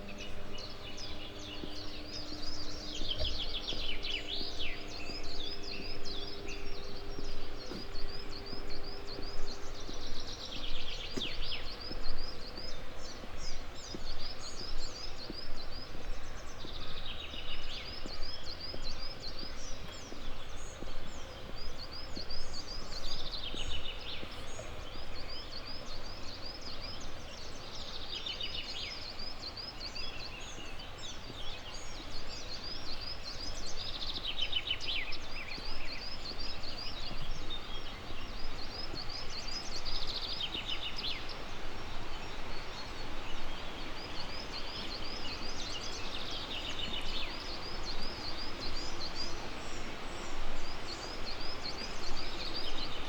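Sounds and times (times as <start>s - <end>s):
footsteps on path: 0.0s - 53.0s
songbirds chirping: 0.0s - 53.0s
steady background hiss: 0.0s - 53.0s.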